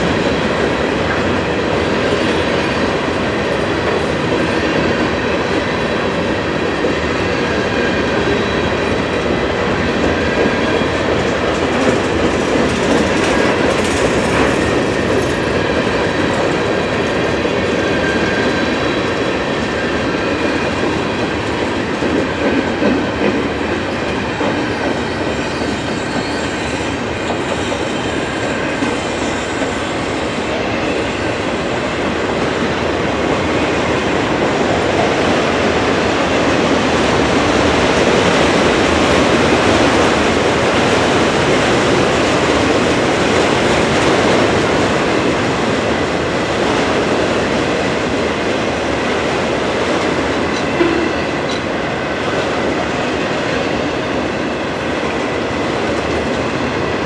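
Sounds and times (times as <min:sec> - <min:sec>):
train wheels rumbling and rattling: 0:00.0 - 0:57.0.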